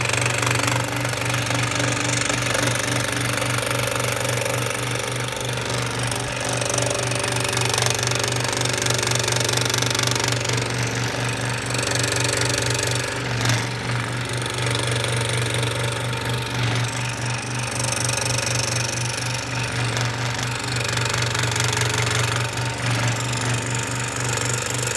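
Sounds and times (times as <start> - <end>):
power tool buzzing rattle: 0.0 - 24.9.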